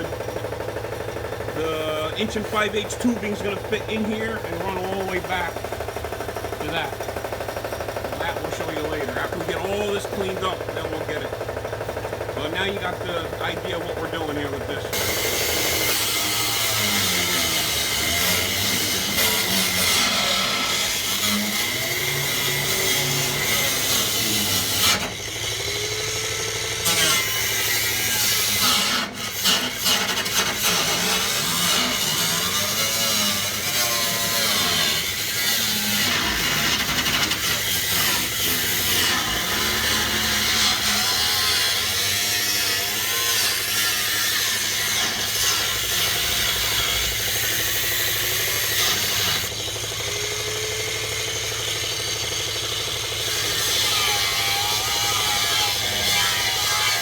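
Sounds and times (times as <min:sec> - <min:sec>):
power tool cutting sheet metal: 0:00.0 - 0:57.0.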